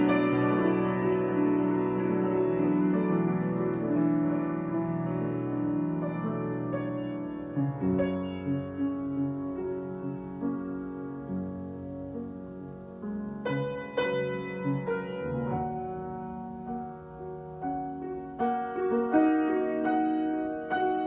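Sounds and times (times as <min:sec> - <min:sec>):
solo piano playing: 0:00.0 - 0:21.0.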